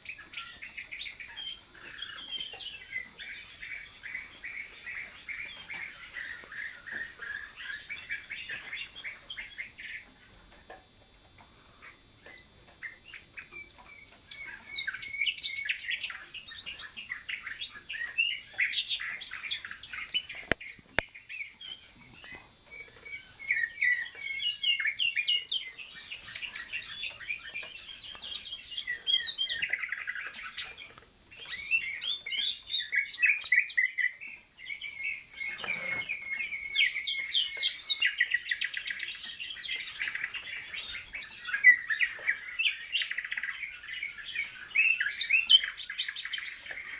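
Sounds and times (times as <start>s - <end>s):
canaries trilling and chirping: 0.0s - 46.9s.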